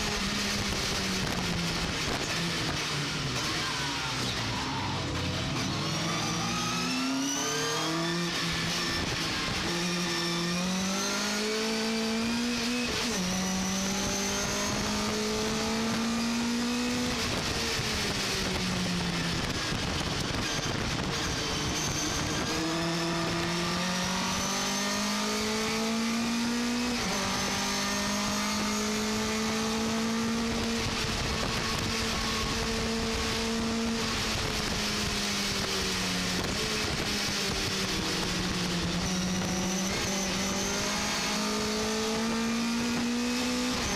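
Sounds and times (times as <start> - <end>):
truck engine revving through gears: 4.2 - 43.9.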